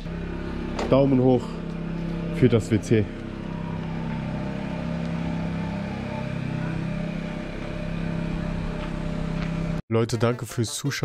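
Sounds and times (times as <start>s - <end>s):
low motor hum: 0.0s - 9.8s.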